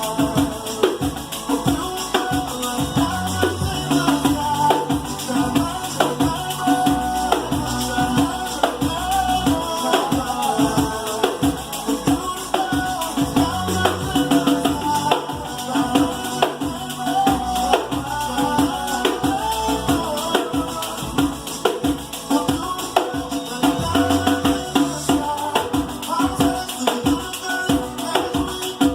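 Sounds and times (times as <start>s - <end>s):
jingled frame drum rhythm: 0.0s - 28.9s
music with melody: 0.0s - 28.9s.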